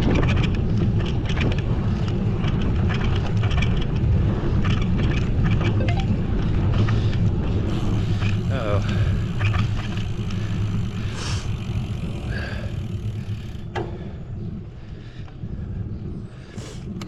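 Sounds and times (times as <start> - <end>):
road crackles: 0.0 - 17.0
wind rumbling on microphone: 0.0 - 17.0.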